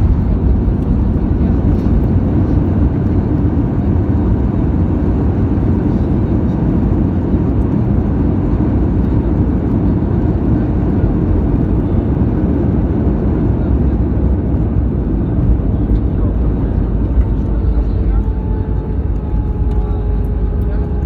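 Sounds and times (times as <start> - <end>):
airplane engines and airflow: 0.0 - 21.0.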